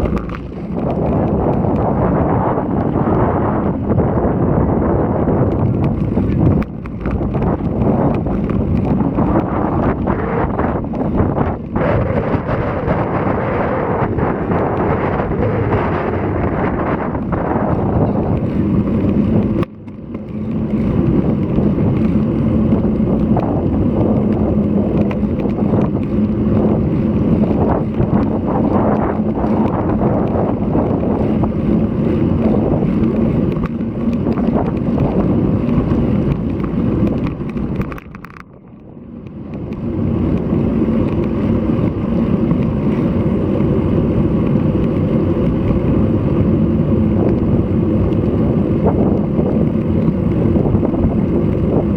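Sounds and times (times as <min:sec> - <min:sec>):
road and tyre noise: 0:00.0 - 0:51.9
wind rumbling on microphone: 0:00.0 - 0:51.9.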